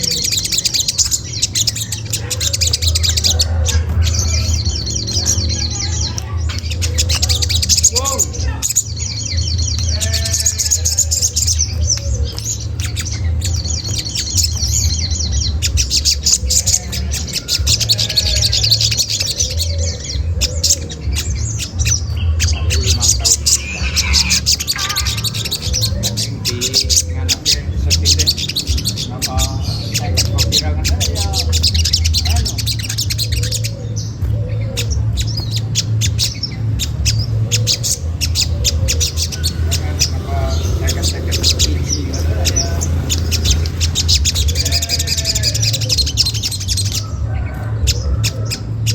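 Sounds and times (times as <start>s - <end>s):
bird high-pitched chirps: 0.0s - 48.9s.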